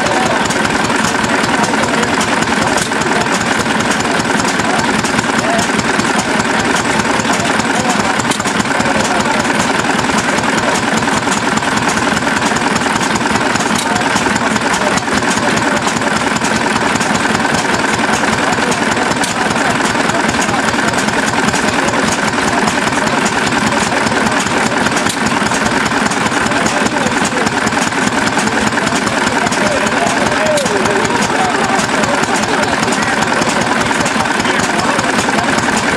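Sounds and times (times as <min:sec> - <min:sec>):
stationary gas engines running: 0:00.0 - 0:35.9.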